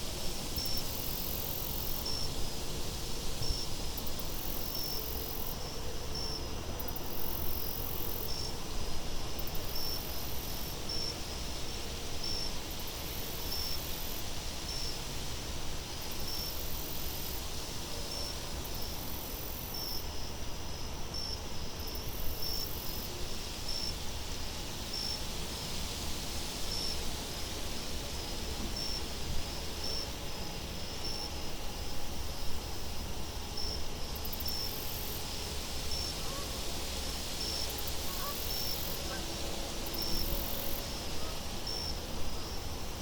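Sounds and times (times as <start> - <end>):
high insect-like hiss: 0.0 - 43.0
crickets chirping: 0.1 - 43.0.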